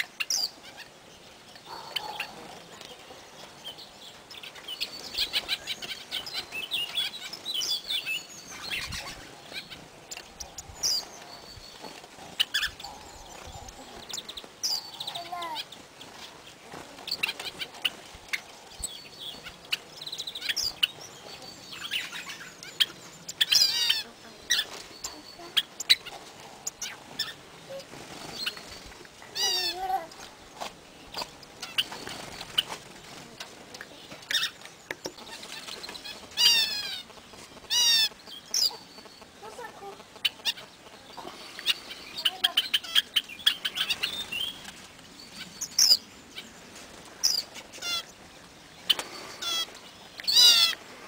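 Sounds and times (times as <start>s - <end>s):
birds calling and chirping: 0.0s - 51.0s.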